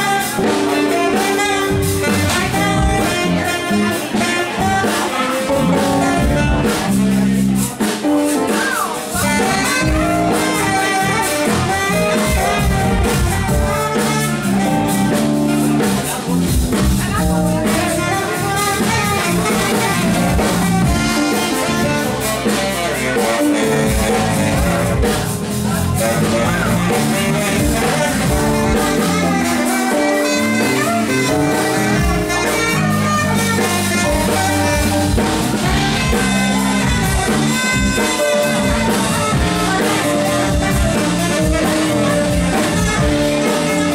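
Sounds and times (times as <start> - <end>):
saxophones: 0.0 - 7.6, 8.2 - 43.9
live funk band playing: 0.0 - 43.9.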